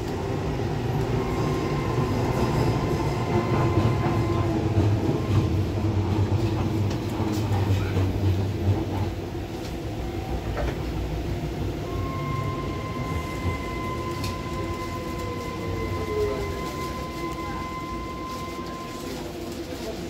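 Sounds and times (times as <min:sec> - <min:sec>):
steady train whine: 0:00.0 - 0:20.0
train rumble: 0:00.0 - 0:20.0.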